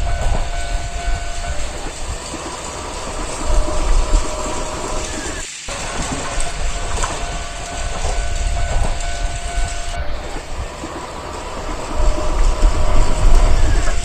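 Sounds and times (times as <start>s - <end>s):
faint steady tone: 0.0s - 14.0s
train rattling on rails: 0.0s - 14.0s.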